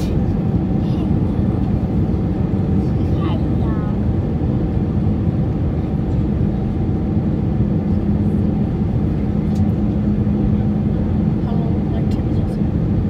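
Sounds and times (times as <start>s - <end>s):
jet engine and airflow rumble: 0.0s - 13.0s
steady low hum: 0.0s - 13.0s.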